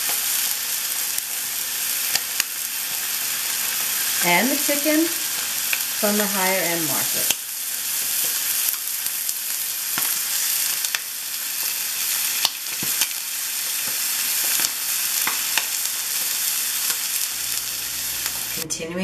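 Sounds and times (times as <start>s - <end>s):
meat sizzling in a skillet: 0.0s - 18.6s.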